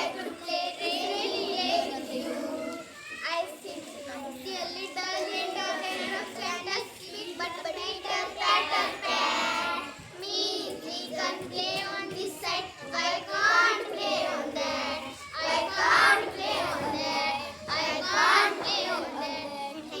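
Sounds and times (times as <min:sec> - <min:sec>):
child singing: 0:00.0 - 0:20.0.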